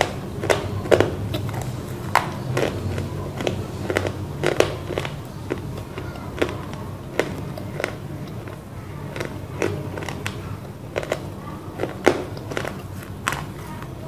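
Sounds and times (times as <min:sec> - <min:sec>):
crunching clay being chewed: 0:00.0 - 0:14.0.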